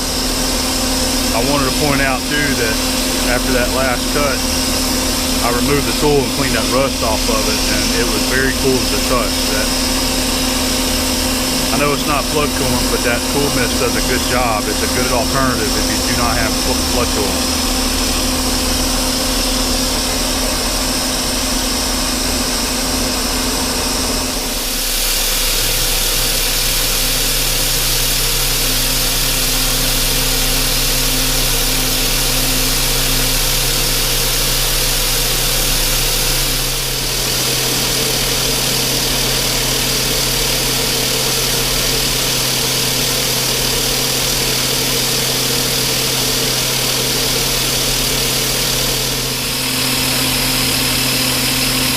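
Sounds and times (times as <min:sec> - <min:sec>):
metal lathe motor hum: 0:00.0 - 0:51.9
mist coolant hissing: 0:00.0 - 0:51.9.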